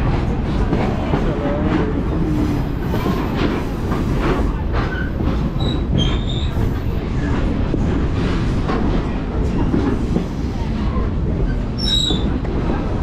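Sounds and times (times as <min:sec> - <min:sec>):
train cars rumbling on rails: 0:00.0 - 0:13.0.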